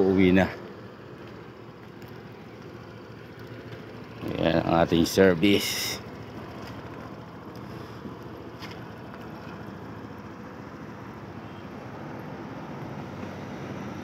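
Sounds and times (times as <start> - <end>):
motorcycle engine running: 0.0 - 13.3.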